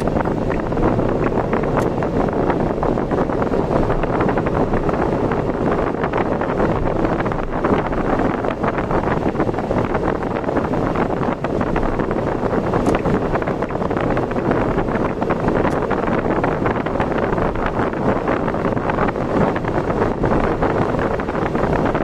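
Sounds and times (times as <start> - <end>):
vehicle road noise: 0.0 - 22.0
wind buffeting microphone: 0.0 - 22.0.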